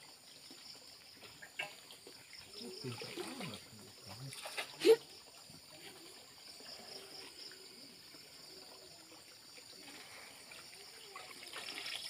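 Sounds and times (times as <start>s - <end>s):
insects humming: 0.0s - 12.0s
water sloshing and trickling: 0.0s - 12.0s.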